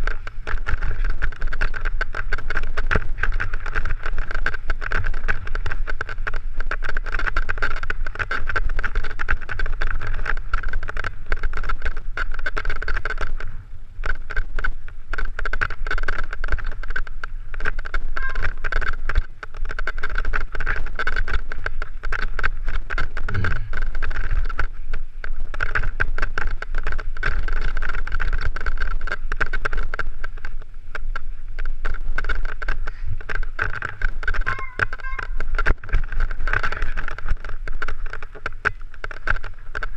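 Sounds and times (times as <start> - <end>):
mountain bike rattling over rocks: 0.0 - 39.9
wind buffeting microphone: 0.0 - 39.9.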